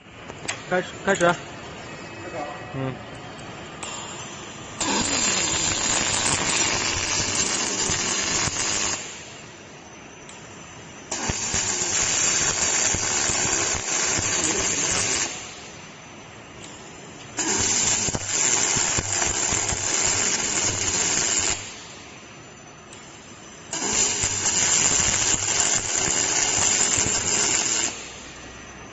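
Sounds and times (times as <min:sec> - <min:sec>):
welding arc noise: 0:02.3 - 0:22.2, 0:22.8 - 0:28.9.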